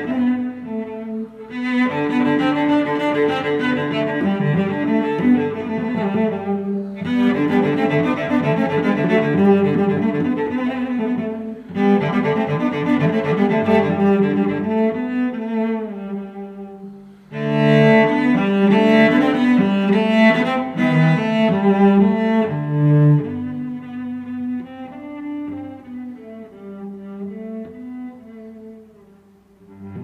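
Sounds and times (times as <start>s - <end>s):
instrumental music with bowed strings: 0.0s - 30.0s.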